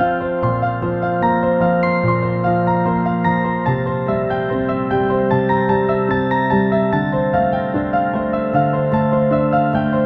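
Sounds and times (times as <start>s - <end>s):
soft new-age background music: 0.0s - 10.0s.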